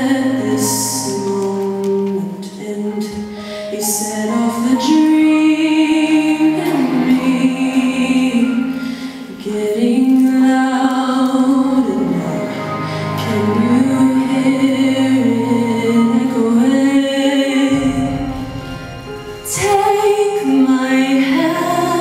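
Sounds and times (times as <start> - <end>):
musical accompaniment: 0.0 - 22.0
woman singing into microphone: 0.0 - 22.0.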